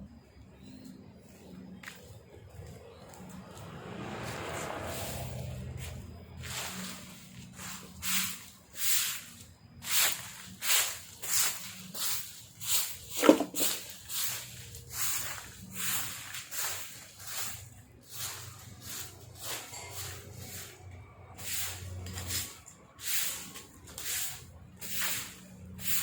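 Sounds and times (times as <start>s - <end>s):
broom sweeping leaves: 3.5s - 26.0s.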